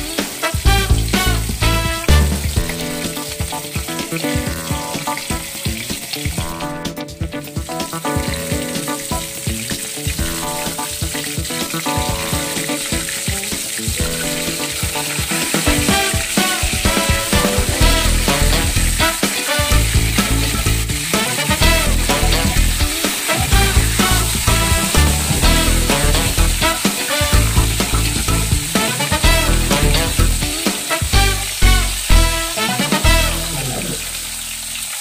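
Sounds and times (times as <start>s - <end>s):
fish sizzling in hot oil: 0.0s - 7.0s, 7.6s - 35.0s.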